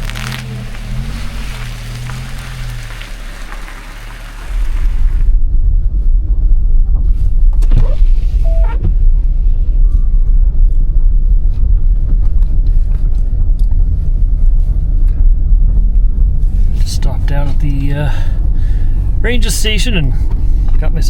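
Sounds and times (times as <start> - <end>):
van engine and road rumble: 0.0 - 21.0.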